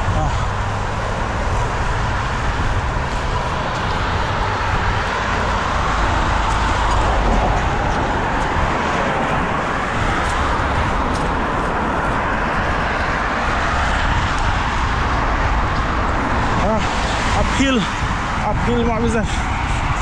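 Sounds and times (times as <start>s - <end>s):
road traffic noise: 0.0s - 20.0s
wind rushing on microphone: 0.0s - 20.0s.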